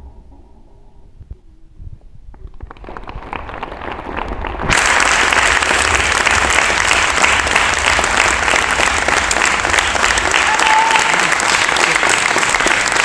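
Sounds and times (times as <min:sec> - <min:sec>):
audience applauding: 0:02.4 - 0:13.0.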